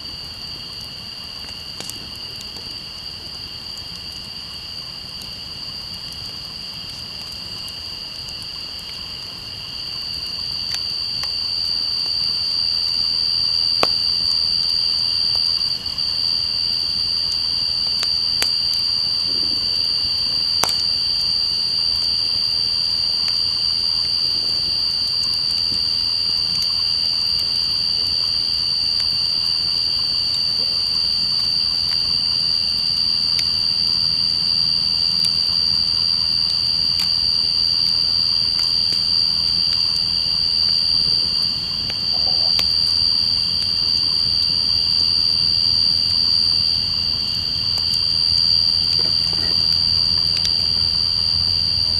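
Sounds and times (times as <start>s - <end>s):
campfire crackling and popping: 0.0s - 51.9s
night insects chorus: 0.0s - 51.9s.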